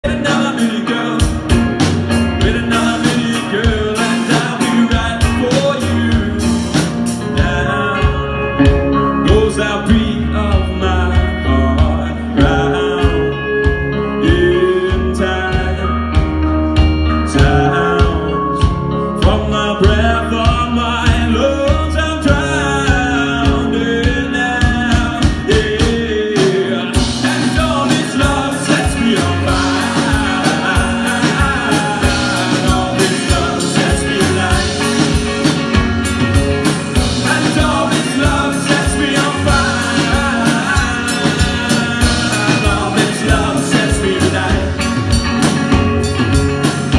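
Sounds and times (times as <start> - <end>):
alternative rock band playing: 0.0 - 46.9
sung vocals: 0.0 - 46.9.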